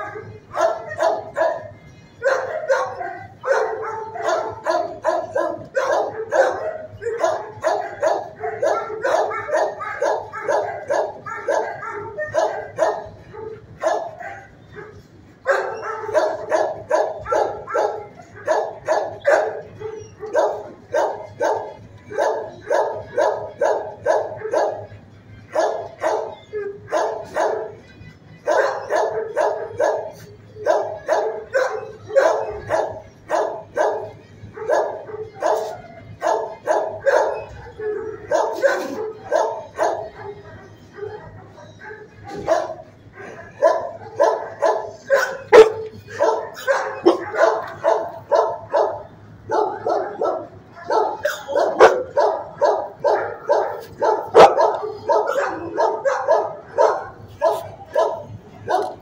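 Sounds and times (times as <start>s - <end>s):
dogs barking: 0.0s - 59.0s.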